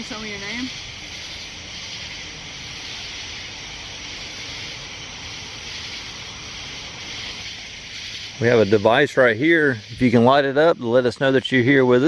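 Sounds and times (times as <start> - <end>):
insect chorus hissing: 0.0 - 12.0.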